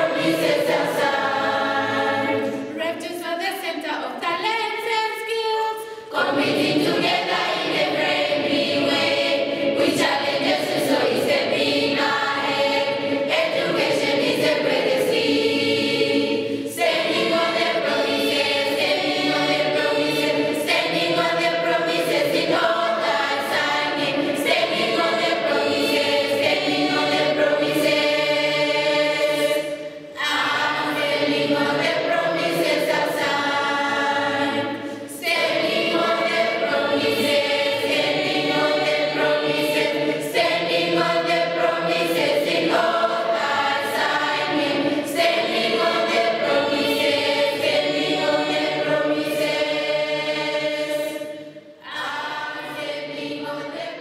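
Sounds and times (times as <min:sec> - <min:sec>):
school choir singing: 0:00.0 - 0:03.0, 0:05.9 - 0:54.0.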